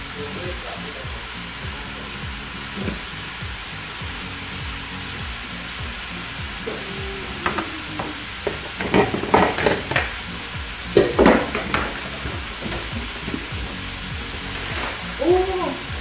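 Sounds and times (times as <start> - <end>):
crackle bursts: 0.0 - 16.0
vegetables sizzling in a wok: 0.0 - 16.0.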